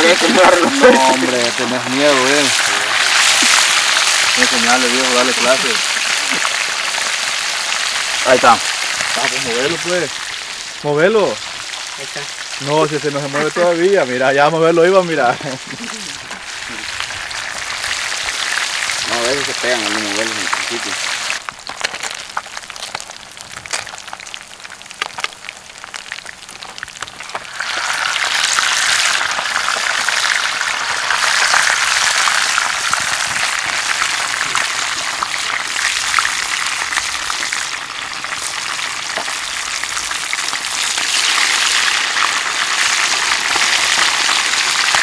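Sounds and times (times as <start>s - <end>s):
fish frying in hot oil: 0.0s - 45.0s.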